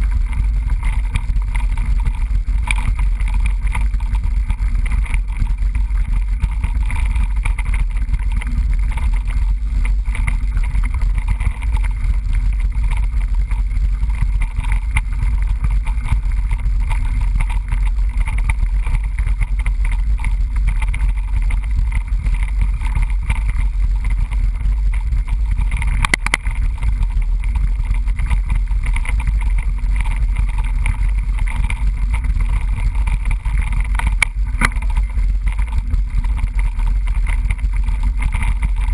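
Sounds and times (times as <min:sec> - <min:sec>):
bike clatter: 0:00.0 - 0:38.9
bike knocks and rattles: 0:00.0 - 0:38.9
wind buffeting microphone: 0:00.0 - 0:38.9.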